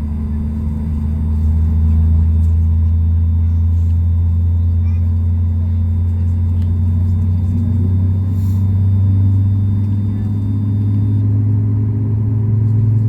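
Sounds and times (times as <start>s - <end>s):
airliner cabin engine hum: 0.0s - 13.0s.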